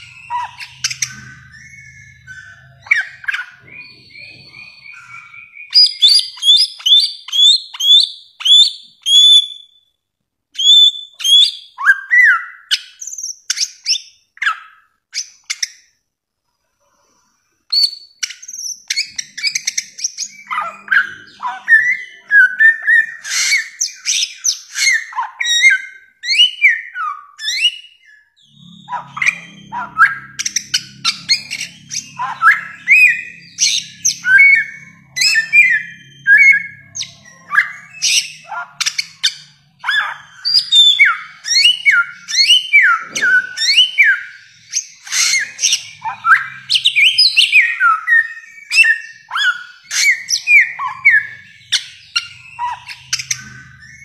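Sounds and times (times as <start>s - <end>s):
bird whistling and chattering: 0.0s - 9.7s, 10.6s - 15.8s, 17.7s - 54.0s.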